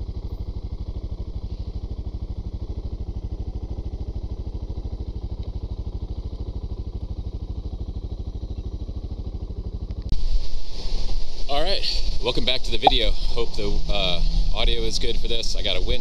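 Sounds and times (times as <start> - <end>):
motorcycle engine running low revs: 0.0 - 16.0.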